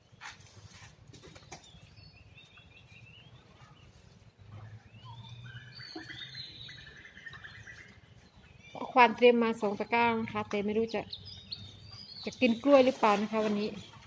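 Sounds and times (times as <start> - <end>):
faint bird chirping: 1.6 - 9.8, 10.7 - 14.0.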